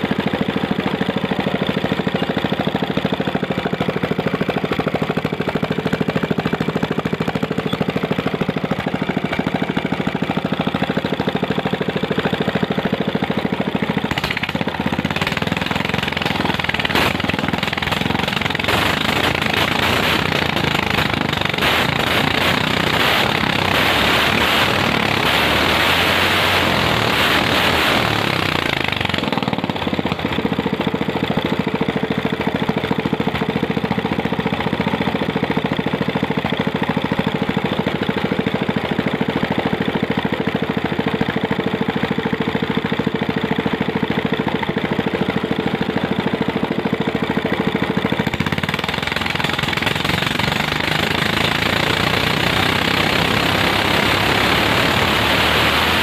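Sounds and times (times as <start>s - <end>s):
small petrol engine idling: 0.0s - 56.0s.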